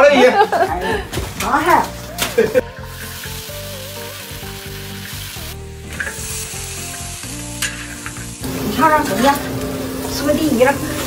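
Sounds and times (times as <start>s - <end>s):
food sizzling in a wok: 1.5s - 11.0s.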